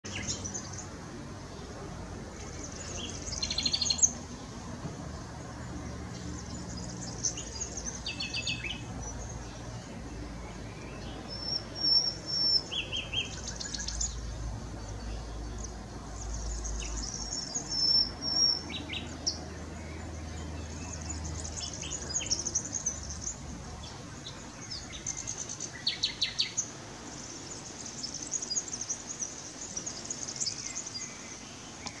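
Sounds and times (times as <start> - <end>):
nightingale singing: 0.0 - 1.7, 2.3 - 4.6, 5.2 - 32.0.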